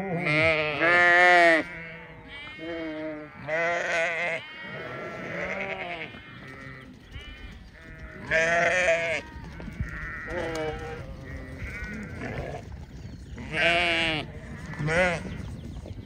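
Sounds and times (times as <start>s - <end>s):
sheep bleating: 0.0s - 12.6s, 13.4s - 15.3s.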